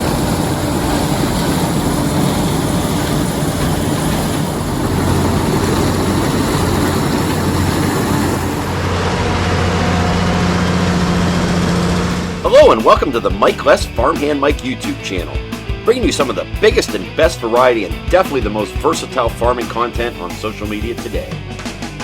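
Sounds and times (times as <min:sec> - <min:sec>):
heavy farm machinery engine running: 0:00.0 - 0:21.8.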